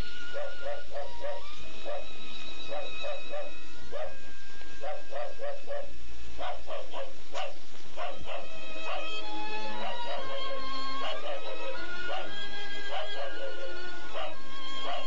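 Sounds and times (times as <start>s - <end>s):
sustained high music notes: 0.0s - 6.4s, 8.2s - 15.0s.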